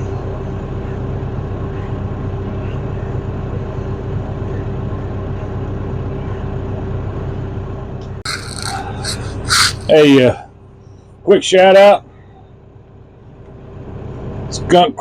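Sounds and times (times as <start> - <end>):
tractor engine running: 0.0 - 14.8.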